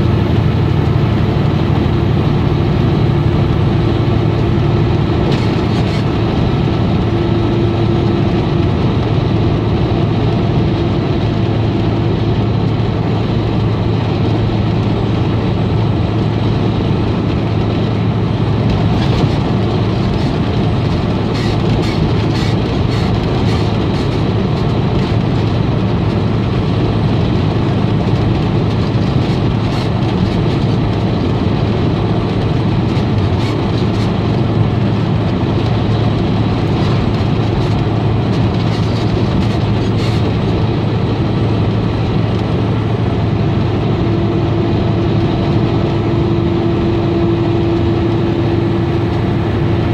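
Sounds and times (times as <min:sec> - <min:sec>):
tyre and drivetrain rumble: 0:00.0 - 0:49.9.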